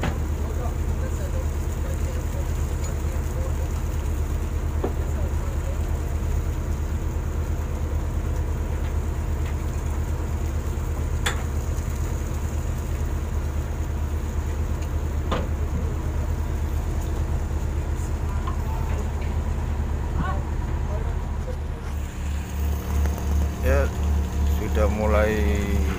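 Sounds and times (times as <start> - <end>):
boat engine droning: 0.0 - 25.9.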